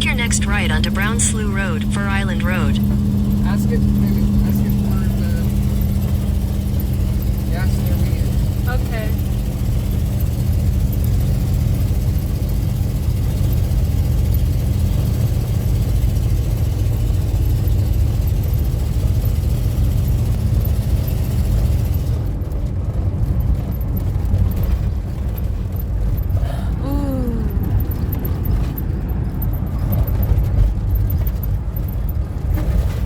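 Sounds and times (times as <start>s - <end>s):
low hums: 0.0s - 22.7s, 24.6s - 33.0s
engine and tyre rumble: 0.0s - 33.0s.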